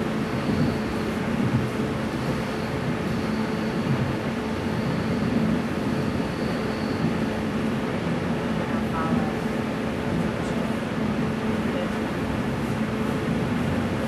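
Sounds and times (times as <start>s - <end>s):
steady low hum: 0.0s - 14.0s
train wheels rumbling on track: 0.0s - 14.0s.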